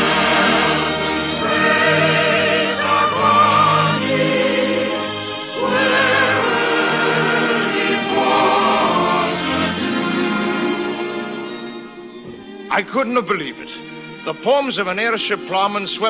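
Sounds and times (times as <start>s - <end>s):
choir singing with vibrato: 0.0s - 14.4s
orchestra playing: 0.0s - 16.0s.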